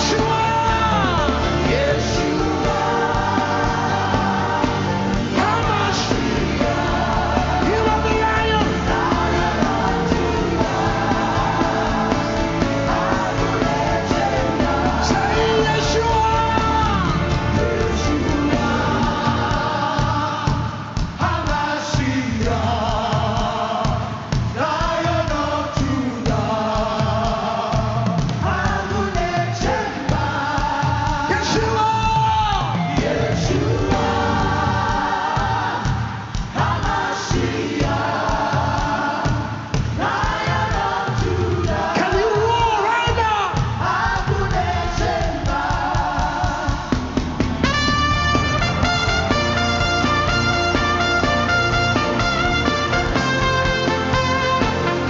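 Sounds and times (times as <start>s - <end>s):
full band with steady beat: 0.0s - 55.0s
voices singing with choir: 0.0s - 55.0s.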